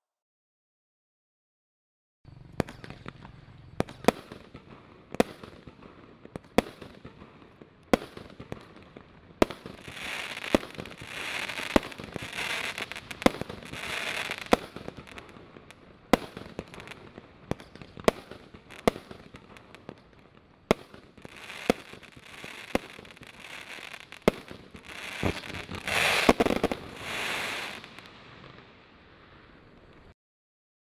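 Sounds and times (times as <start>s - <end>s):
fireworks bangs: 2.3s - 30.1s
fireworks crackling: 2.3s - 30.2s.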